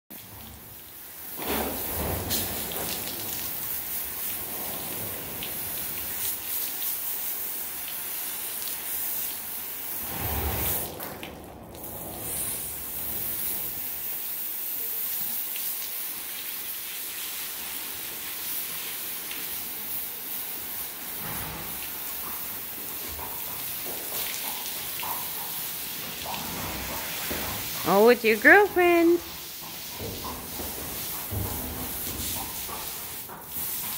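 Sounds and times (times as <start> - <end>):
water splashing on floor: 0.1 - 33.9.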